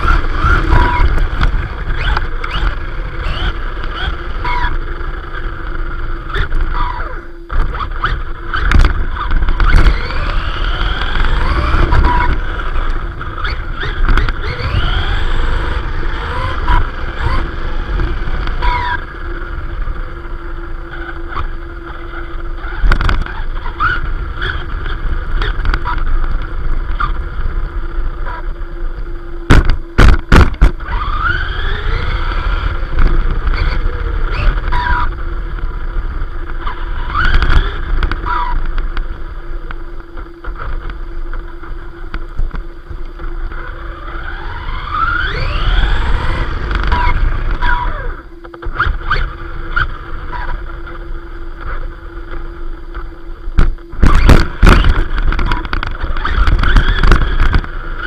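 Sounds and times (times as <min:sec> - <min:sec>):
electric motor whine: 0:00.0 - 0:58.0.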